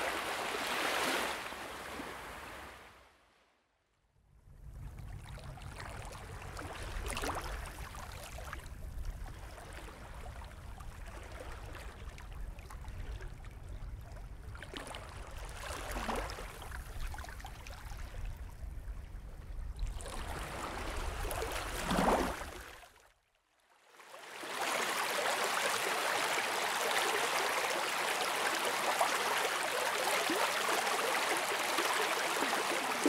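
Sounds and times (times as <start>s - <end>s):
small waves lapping: 0.0s - 3.0s, 4.9s - 23.0s, 23.8s - 33.0s.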